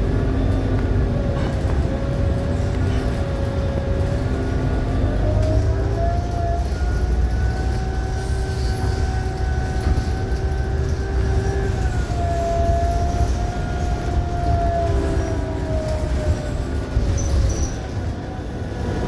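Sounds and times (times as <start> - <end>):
bus hybrid drive whine: 0.0 - 19.0
low engine and road rumble: 0.0 - 19.0.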